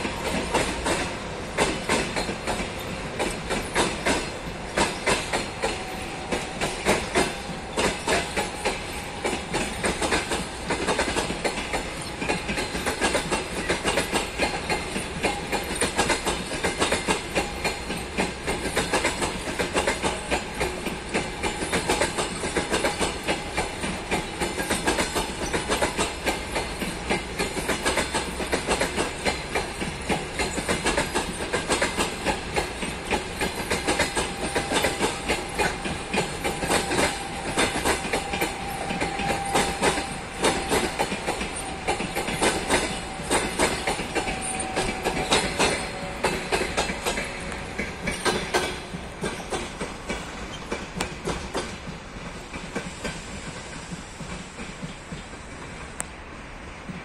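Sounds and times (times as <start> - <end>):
train wheels clattering over rail joints: 0.0 - 56.2.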